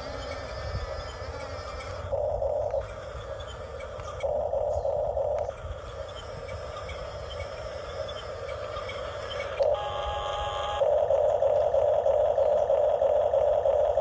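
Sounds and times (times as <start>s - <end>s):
toy excavator motors whirring: 0.0s - 14.0s.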